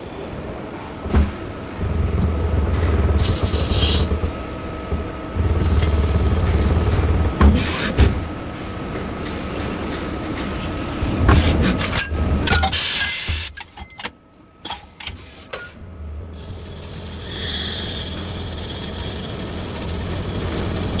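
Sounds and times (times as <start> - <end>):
lathe mechanical hum: 0.0 - 21.0.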